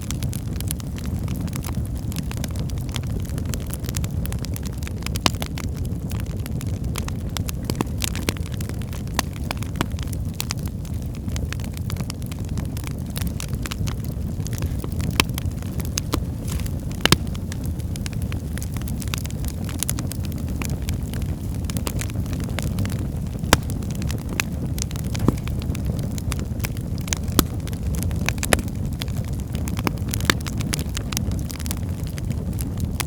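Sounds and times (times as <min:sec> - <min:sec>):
fire burning with crackles and pops: 0:00.0 - 0:33.0.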